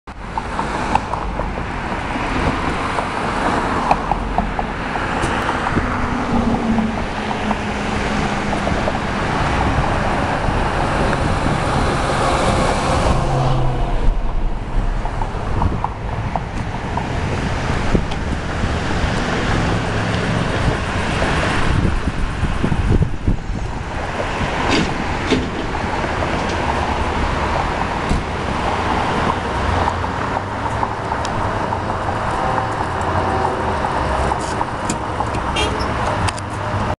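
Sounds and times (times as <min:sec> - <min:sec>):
road traffic: 0:00.1 - 0:36.9
wind on microphone: 0:00.2 - 0:36.9.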